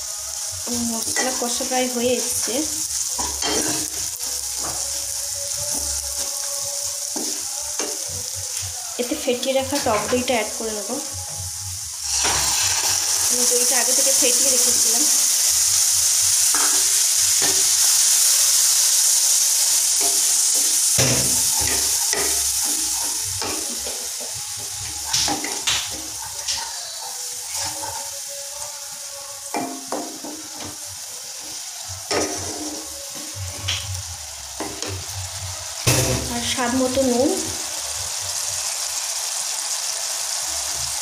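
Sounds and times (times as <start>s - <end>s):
masala sizzling in a pan: 0.0s - 41.0s.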